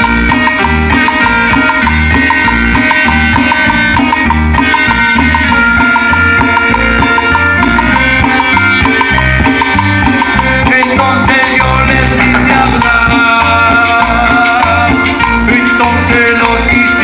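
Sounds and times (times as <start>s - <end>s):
latin dance band playing: 0.0s - 17.0s.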